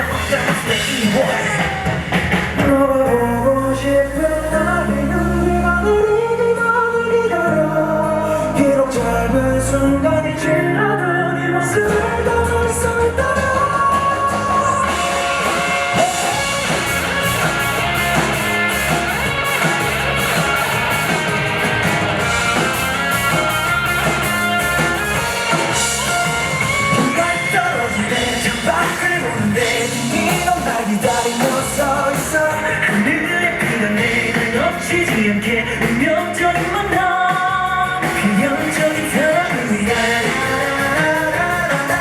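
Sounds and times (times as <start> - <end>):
person singing: 0.0 - 17.6, 22.2 - 42.0
pop-rock band music: 0.0 - 42.0.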